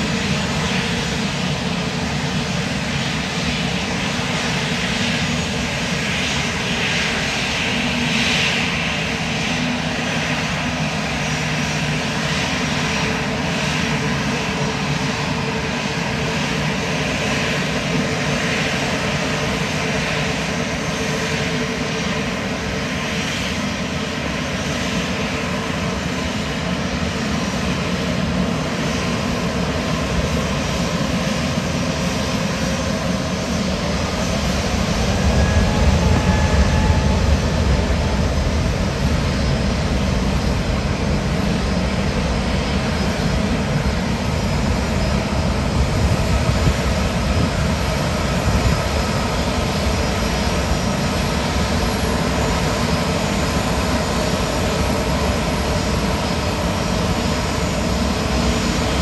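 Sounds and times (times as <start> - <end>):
airliner engines running: 0.0 - 59.0.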